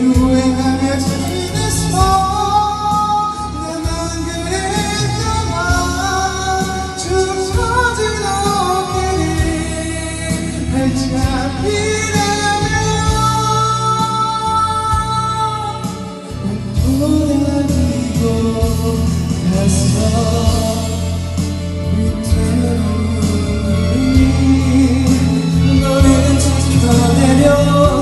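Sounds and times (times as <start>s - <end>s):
karaoke backing track: 0.0s - 28.0s
person singing karaoke: 0.0s - 28.0s.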